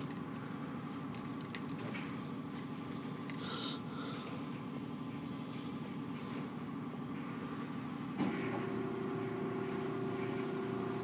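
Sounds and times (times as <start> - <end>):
car wash machinery humming: 0.0 - 11.0.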